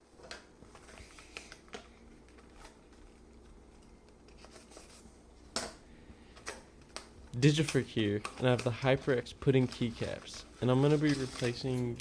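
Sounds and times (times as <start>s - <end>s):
scratching handling noises: 0.2s - 12.0s.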